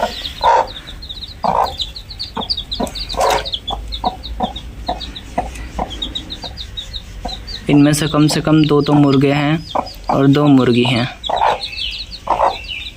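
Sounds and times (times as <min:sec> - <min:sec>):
chicks peeping: 0:00.0 - 0:12.9
hen clucking: 0:00.0 - 0:12.9.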